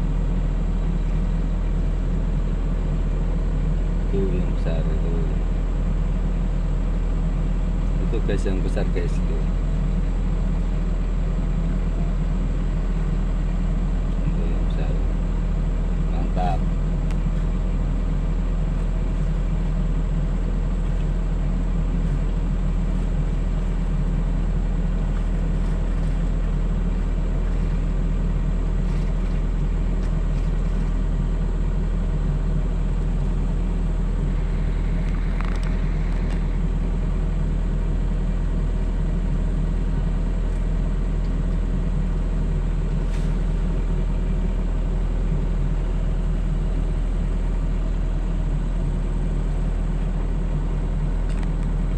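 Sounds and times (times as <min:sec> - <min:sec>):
excavator engine droning: 0:00.0 - 0:51.9.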